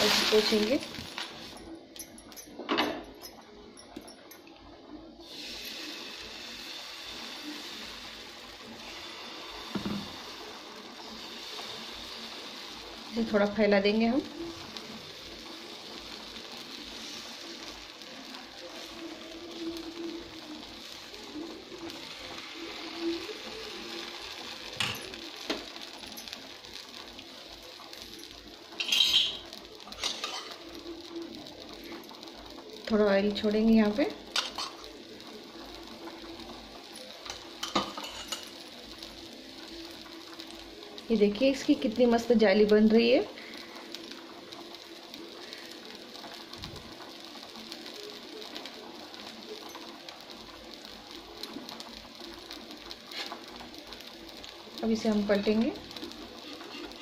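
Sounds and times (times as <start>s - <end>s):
batter sizzling on a hot pan: 0.0s - 57.0s.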